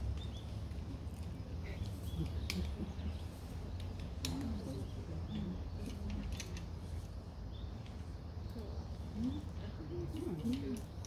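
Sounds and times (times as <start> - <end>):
distant indistinct voices: 0.0 - 11.0.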